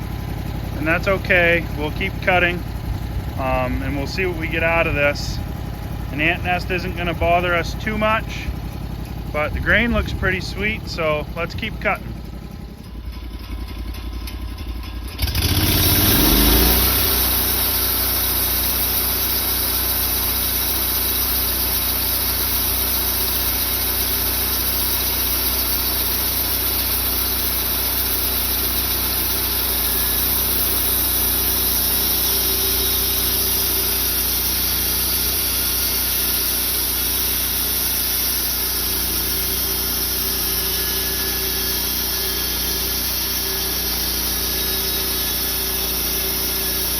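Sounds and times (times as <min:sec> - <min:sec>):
saw cutting wood: 0:00.0 - 0:12.3, 0:15.2 - 0:46.9
sawmill engine revving: 0:00.0 - 0:46.9.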